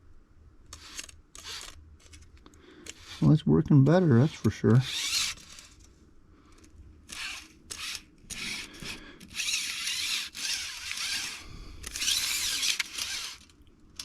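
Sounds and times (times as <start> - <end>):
tape measure blade scraping: 0.7 - 5.9, 7.0 - 14.0.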